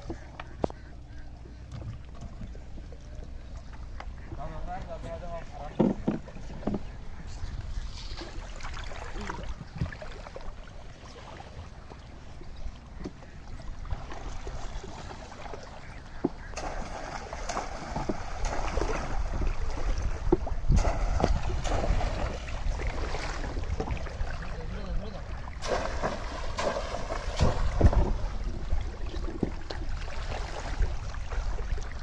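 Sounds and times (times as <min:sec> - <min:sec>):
water splashing and sloshing: 0:00.0 - 0:32.0.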